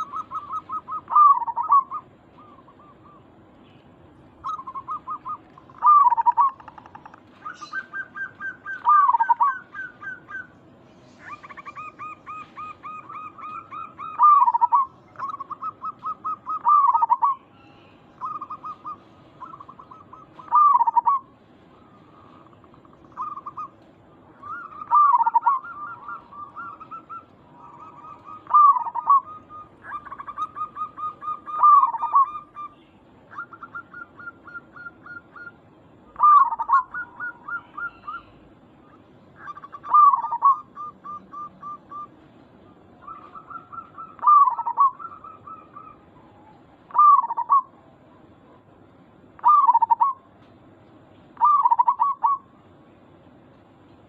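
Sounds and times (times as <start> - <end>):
doves cooing: 0.0 - 50.4, 51.4 - 52.8.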